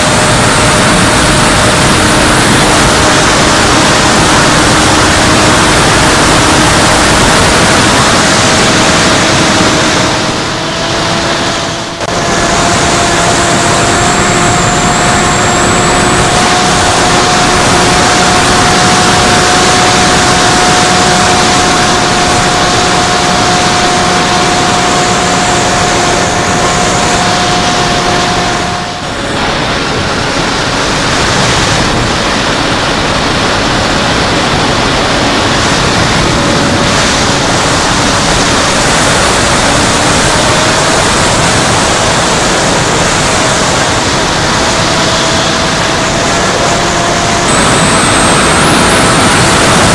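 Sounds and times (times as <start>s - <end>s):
electric motor and propeller whining: 0.0s - 49.9s
loud wind rush on microphone: 0.0s - 49.9s.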